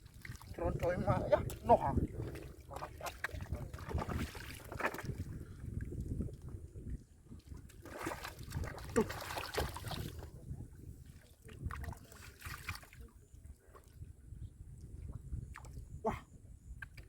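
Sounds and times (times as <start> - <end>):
muddy water sloshing and splashing: 0.0 - 16.1.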